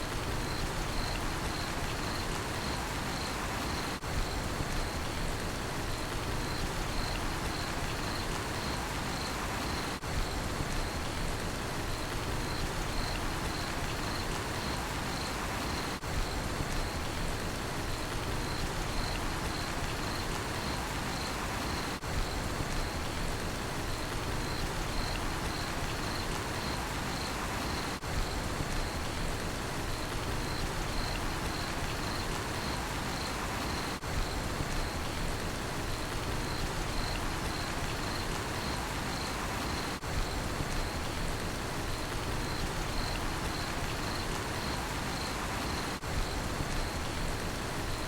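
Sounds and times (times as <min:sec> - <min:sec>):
steady rainfall: 0:00.0 - 0:48.0
cricket chirping: 0:00.2 - 0:05.2, 0:06.3 - 0:10.1, 0:12.0 - 0:17.1, 0:18.3 - 0:23.2, 0:24.0 - 0:29.2, 0:30.0 - 0:35.2, 0:35.9 - 0:41.2, 0:41.9 - 0:47.2.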